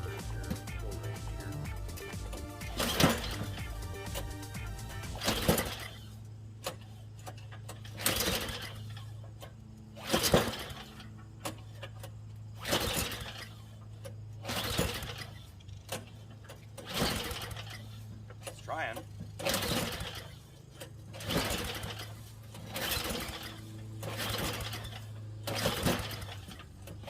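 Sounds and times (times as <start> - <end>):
engine cranking without starting: 0.0 - 27.0
steady low hum: 0.0 - 27.0.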